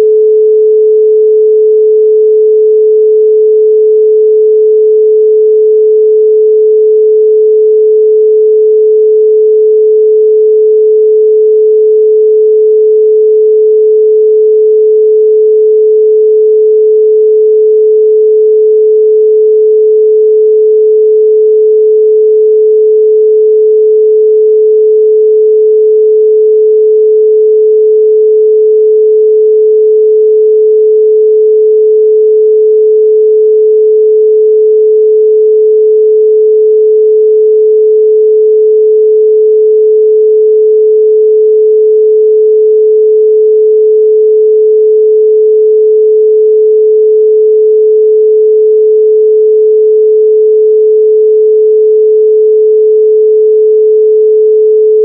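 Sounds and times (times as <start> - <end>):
pure sine tone: 0.0 - 55.0.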